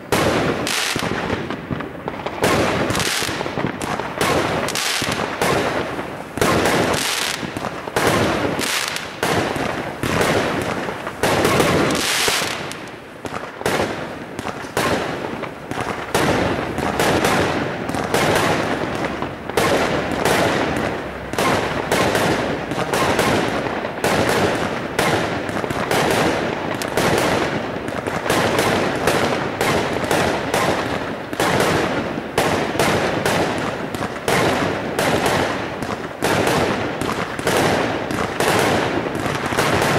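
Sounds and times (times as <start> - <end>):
aerial fireworks bursting: 0.0 - 39.9.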